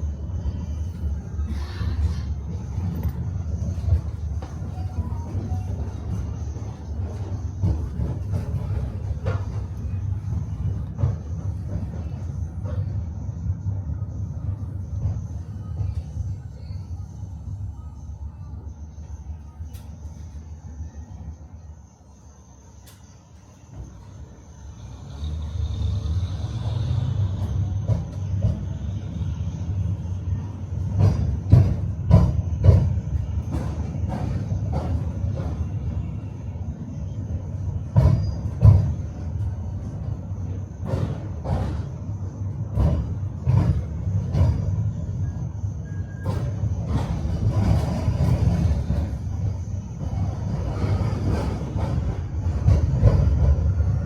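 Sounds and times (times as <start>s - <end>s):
tram rumbling along rails: 0.0s - 54.0s.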